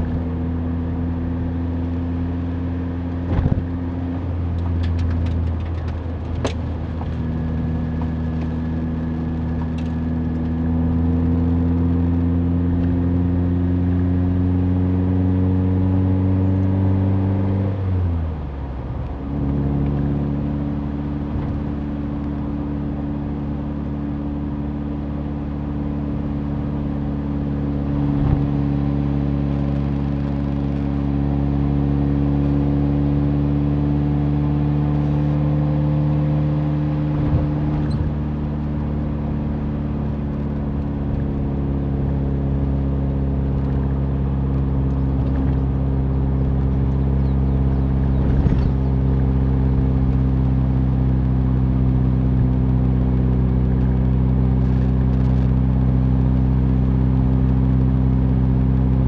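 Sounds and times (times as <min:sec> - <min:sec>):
tyre and road noise: 0:00.0 - 0:13.7, 0:15.5 - 0:59.0
car engine running: 0:00.0 - 0:59.0.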